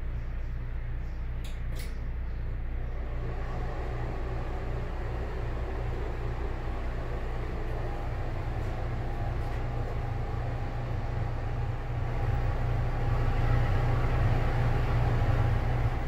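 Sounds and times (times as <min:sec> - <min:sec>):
exhaust fan humming: 0:00.0 - 0:16.0.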